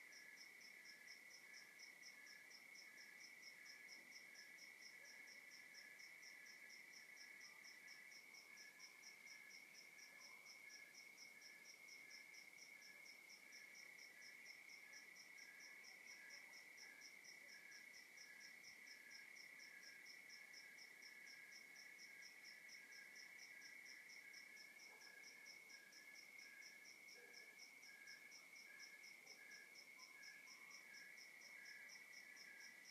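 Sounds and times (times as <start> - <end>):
crickets chirping in pulses: 0.0 - 32.9
faint crickets trilling: 0.0 - 32.9.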